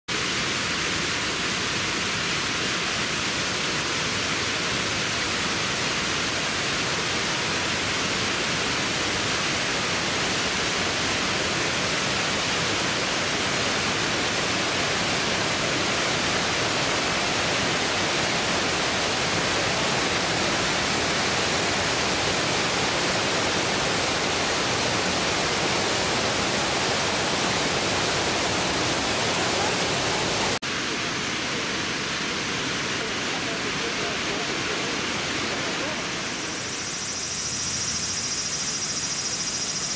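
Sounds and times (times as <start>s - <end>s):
waterfall rushing: 0.1s - 39.0s.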